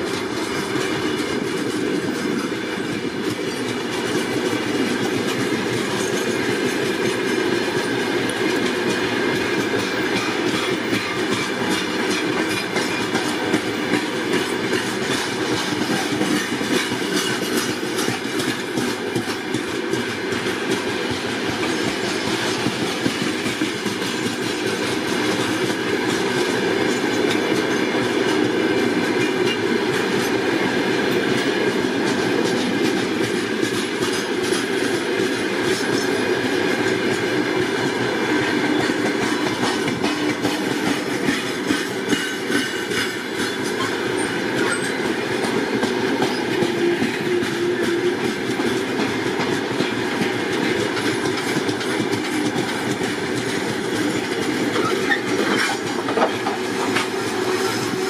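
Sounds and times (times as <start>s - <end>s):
train rolling on rails: 0.0s - 58.0s
wheels clattering over rail joints: 0.0s - 58.0s.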